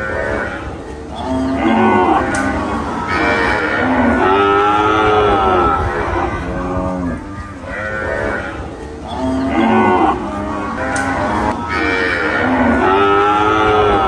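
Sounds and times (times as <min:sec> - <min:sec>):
cattle mooing: 0:00.0 - 0:14.0.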